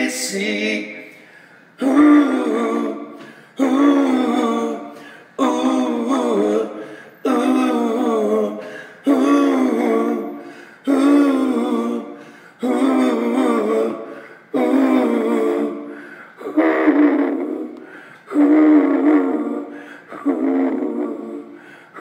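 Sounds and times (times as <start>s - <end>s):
man singing harmonized ooh notes: 0.0s - 22.0s.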